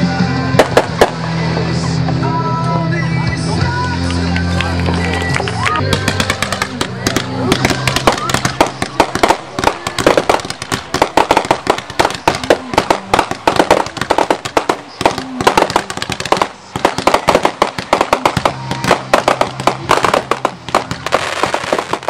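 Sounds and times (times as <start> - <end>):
fireworks bursting and crackling: 0.1 - 2.3, 4.0 - 22.0.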